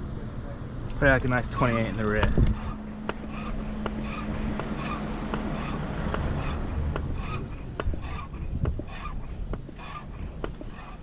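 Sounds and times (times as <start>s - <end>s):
rubbing handling noise: 1.3s - 11.0s.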